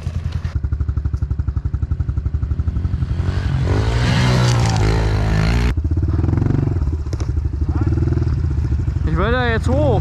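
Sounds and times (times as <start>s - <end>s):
motorbike engine chugging and revving: 0.0s - 10.0s.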